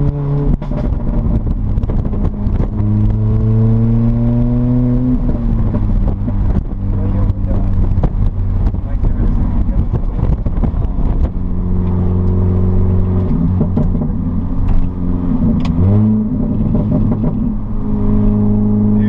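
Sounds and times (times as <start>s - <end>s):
car engine cruising: 0.0s - 19.0s.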